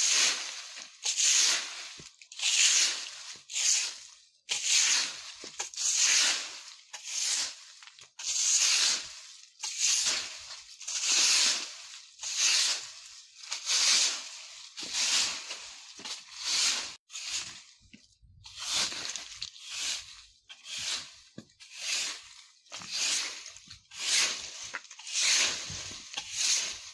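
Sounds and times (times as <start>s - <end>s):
broom sweeping dry leaves: 0.0s - 26.9s.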